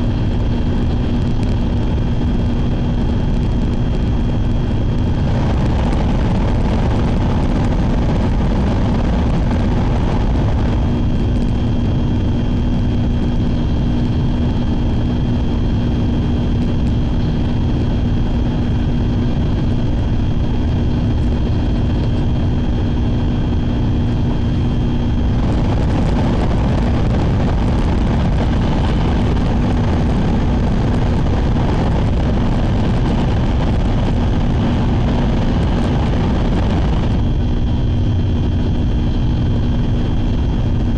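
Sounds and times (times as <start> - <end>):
low hum: 0.0 - 40.9
train rumble and rush: 0.0 - 40.9.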